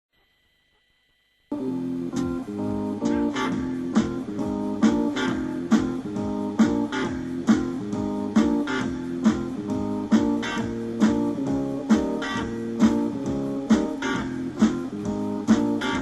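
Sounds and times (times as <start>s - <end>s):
strummed guitar: 1.5s - 16.0s.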